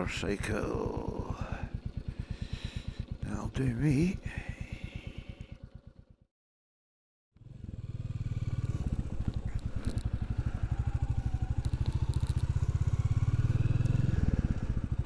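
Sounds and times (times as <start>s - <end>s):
motorcycle engine running: 0.0s - 6.3s, 7.4s - 15.0s.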